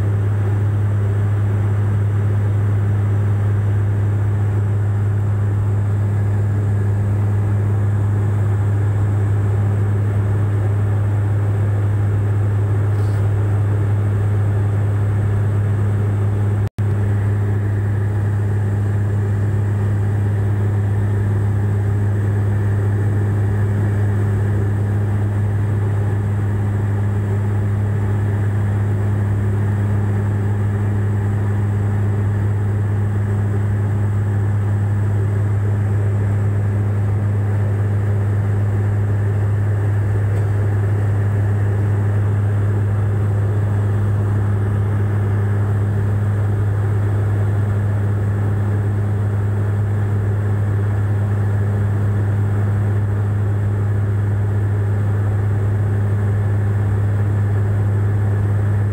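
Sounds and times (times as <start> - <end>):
propeller plane cabin drone: 0.0 - 58.9.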